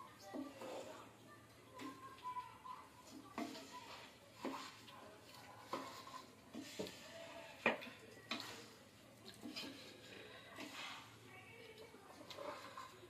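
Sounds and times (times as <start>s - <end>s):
wooden spatula scraping a pot: 0.0s - 13.0s.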